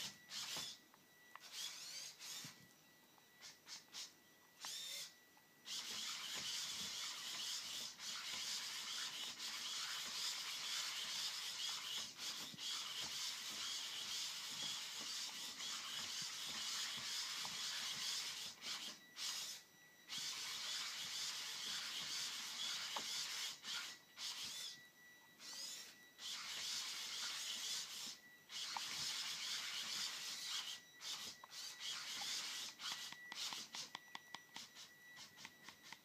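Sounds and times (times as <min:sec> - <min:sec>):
servo motors whirring: 0:00.0 - 0:36.0.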